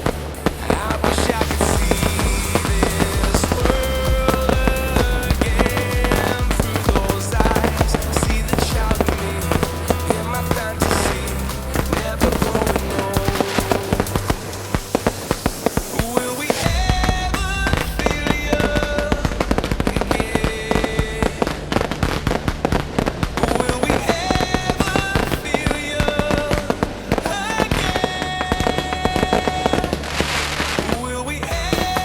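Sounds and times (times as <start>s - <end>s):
music playing: 0.0s - 32.0s.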